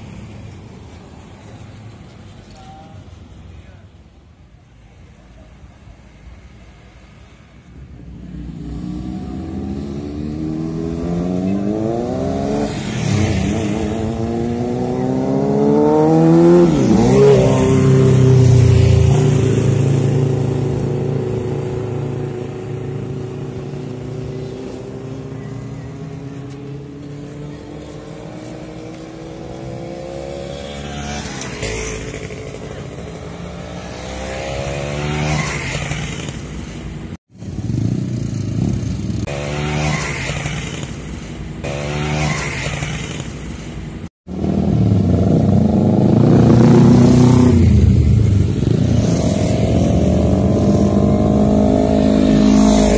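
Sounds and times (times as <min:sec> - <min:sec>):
motorcycles riding past: 0:07.3 - 0:52.9.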